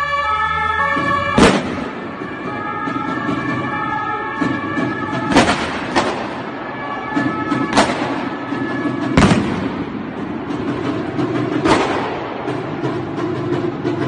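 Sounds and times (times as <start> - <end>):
background din: 0.0 - 14.0
firecrackers banging: 0.9 - 14.0.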